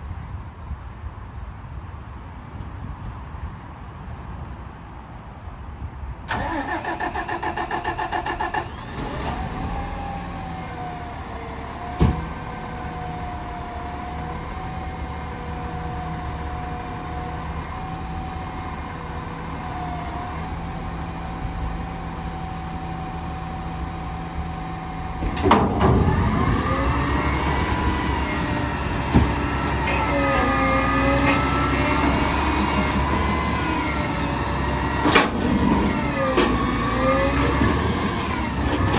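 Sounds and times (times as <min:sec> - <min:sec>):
diesel engine rumble: 0:06.3 - 0:38.9
hydraulic whine: 0:06.3 - 0:38.9.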